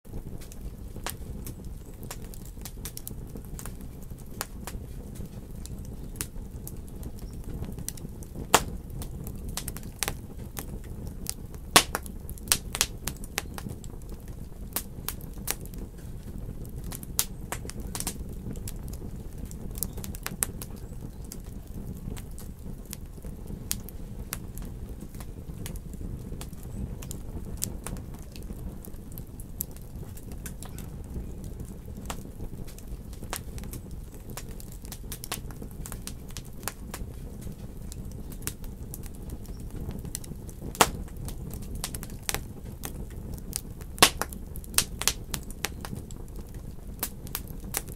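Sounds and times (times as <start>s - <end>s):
wood fire crackling: 0.1s - 47.9s.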